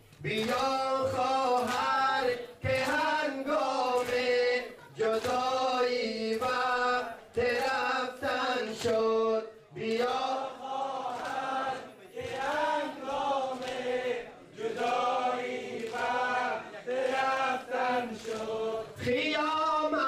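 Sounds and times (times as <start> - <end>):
men chanting a mourning lament: 0.2 - 20.0.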